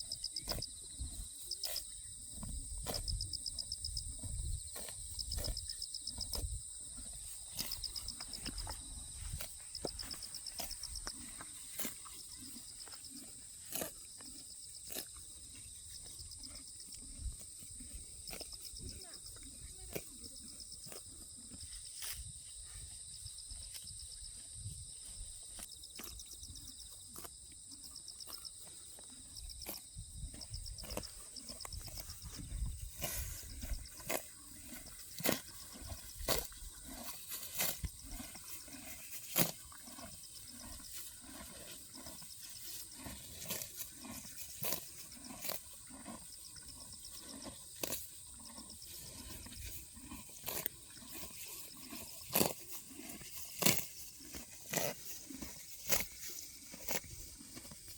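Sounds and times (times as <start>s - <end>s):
horses tearing and chewing grass: 0.0s - 57.9s.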